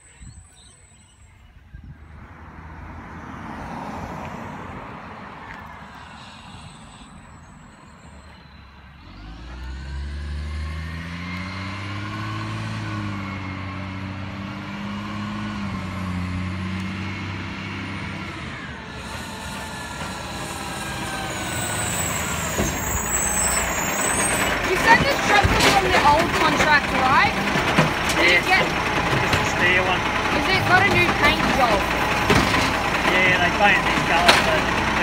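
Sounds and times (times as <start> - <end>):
truck diesel engine: 0.0 - 35.0.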